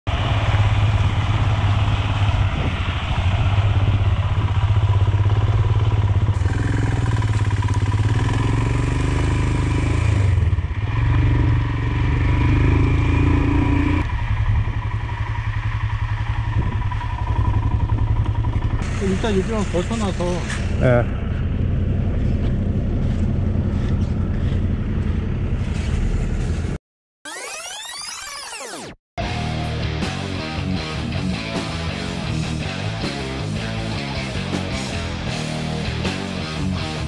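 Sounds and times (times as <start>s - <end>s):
motorcycle engine running: 0.1s - 26.8s, 29.2s - 37.0s.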